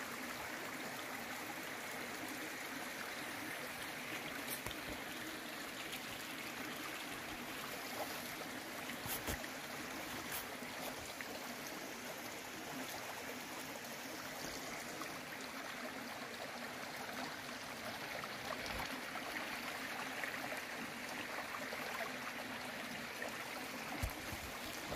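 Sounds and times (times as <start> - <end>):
flowing water rushing: 0.0 - 24.9.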